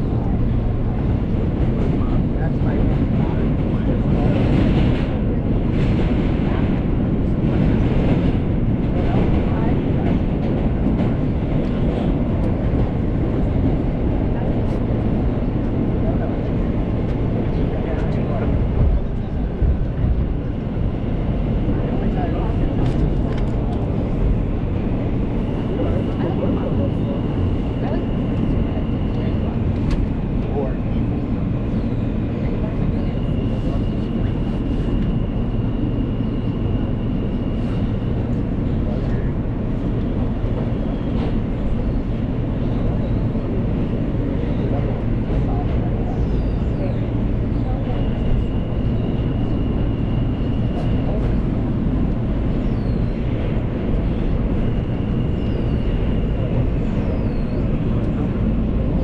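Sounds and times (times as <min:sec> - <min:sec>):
subway train low rumble: 0:00.0 - 0:59.0.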